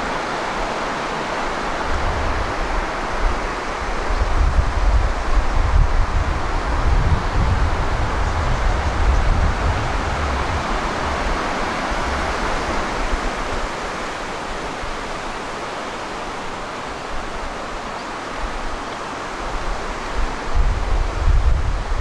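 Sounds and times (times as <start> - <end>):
water rushing over rock: 0.0 - 22.0
wind rumble on microphone: 0.0 - 22.0.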